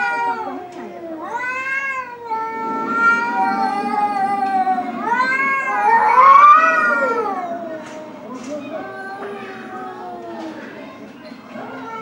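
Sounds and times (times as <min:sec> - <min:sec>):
cats yowling: 0:00.0 - 0:10.8, 0:11.6 - 0:12.0.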